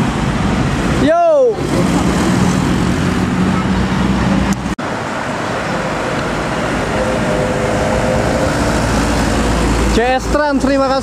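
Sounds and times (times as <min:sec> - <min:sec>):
heavy vehicle engine running: 0:00.0 - 0:11.0
tyre and road noise: 0:00.0 - 0:11.0.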